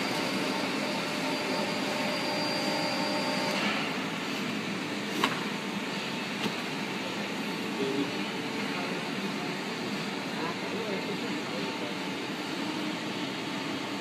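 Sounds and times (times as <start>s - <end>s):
machine whir and hum: 0.0s - 14.0s.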